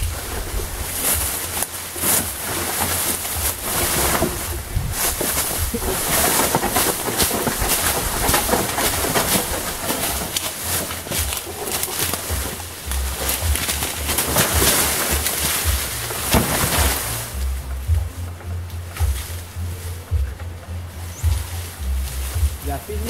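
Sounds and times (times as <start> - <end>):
bamboo poles scraping on ground: 0.0 - 23.0
low rumble: 0.0 - 23.0.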